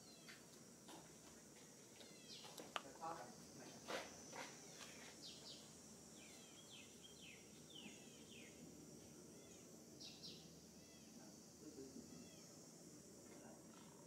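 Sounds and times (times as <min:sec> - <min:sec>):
faint high hiss: 0:02.1 - 0:13.7.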